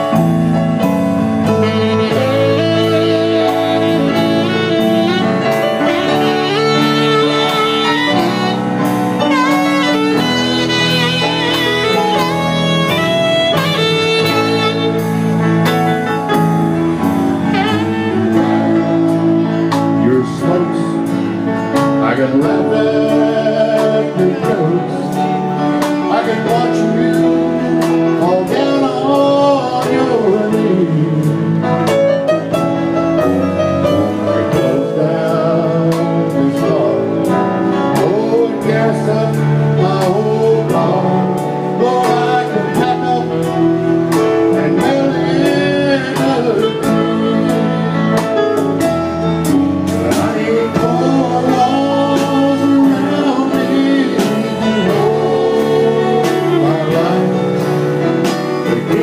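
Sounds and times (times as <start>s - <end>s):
person singing: 0.0s - 15.2s, 17.4s - 59.0s
live country band playing: 0.0s - 59.0s.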